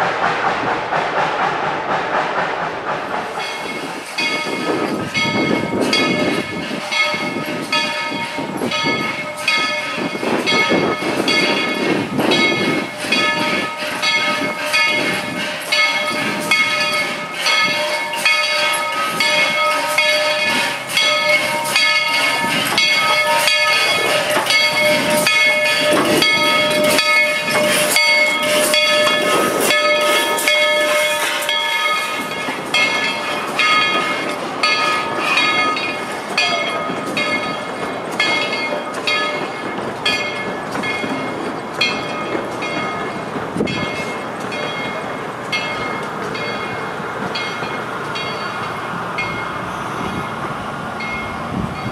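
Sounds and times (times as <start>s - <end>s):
train wheels clicking and clattering: 0.0s - 51.9s.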